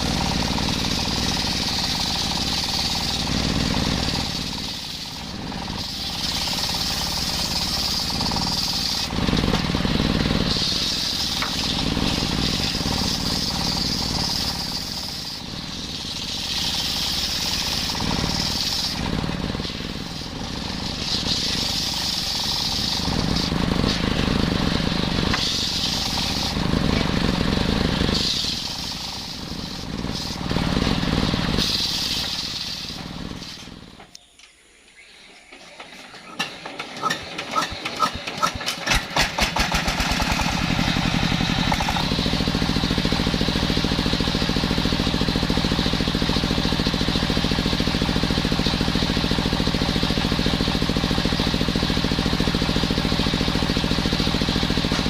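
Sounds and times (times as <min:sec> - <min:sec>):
circular wood saw engine running: 0:00.0 - 0:34.2, 0:35.0 - 0:55.0.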